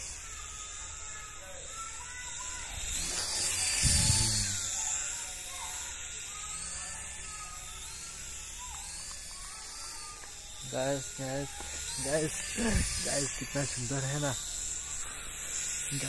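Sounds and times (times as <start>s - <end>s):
toy helicopter motor buzzing: 0.0s - 16.0s.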